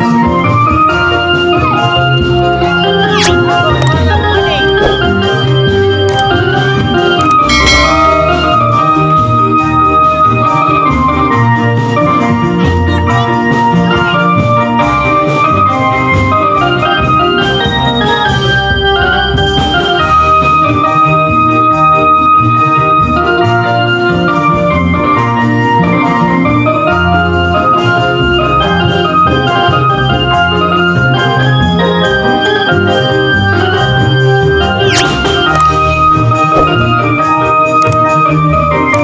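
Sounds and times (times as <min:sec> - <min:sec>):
electronic organ keyboard music: 0:00.0 - 0:39.0.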